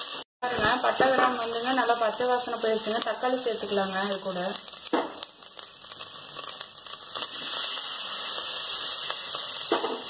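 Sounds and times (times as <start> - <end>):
food frying in hot oil: 0.0 - 10.0.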